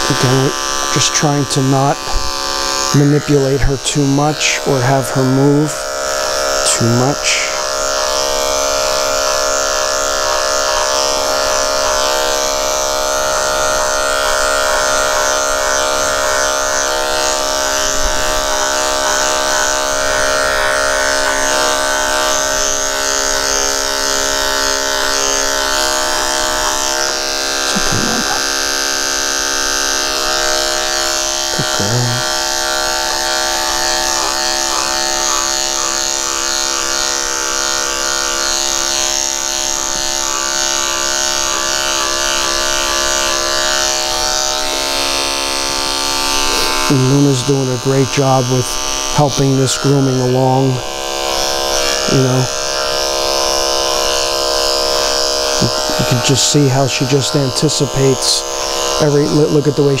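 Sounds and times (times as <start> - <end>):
electric clippers buzzing: 0.0 - 60.0.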